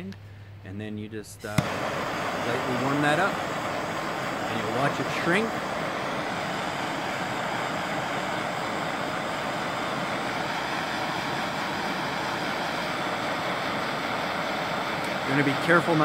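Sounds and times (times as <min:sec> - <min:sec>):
gas torch flame hissing: 0:01.4 - 0:16.0.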